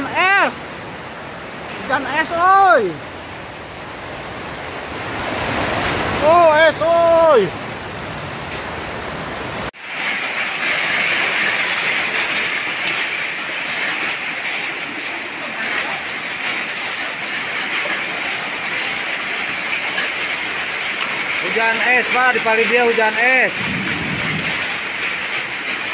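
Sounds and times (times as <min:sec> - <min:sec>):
heavy rain and hail pelting: 0:00.0 - 0:25.9.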